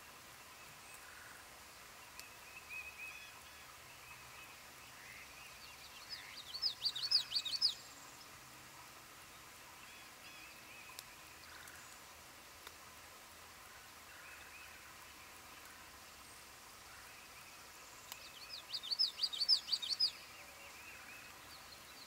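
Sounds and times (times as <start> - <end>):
outdoor ambience hiss: 0.0 - 22.0
faint bird calls: 0.5 - 8.4, 9.7 - 12.1, 13.6 - 22.0.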